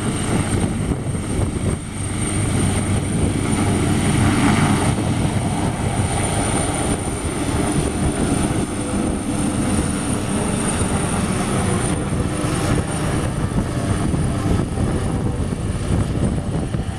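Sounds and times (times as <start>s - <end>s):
helicopter rotor and turbine noise: 0.0s - 16.9s.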